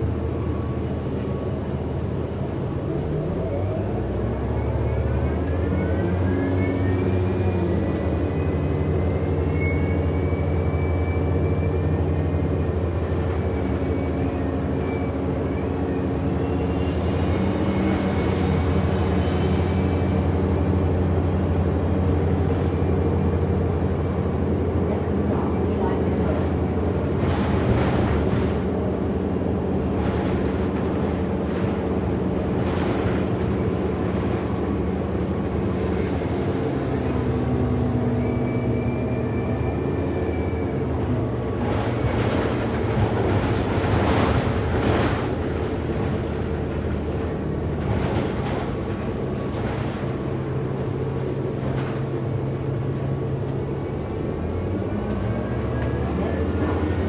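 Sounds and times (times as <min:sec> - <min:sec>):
bus motor hum: 0:00.0 - 0:57.0.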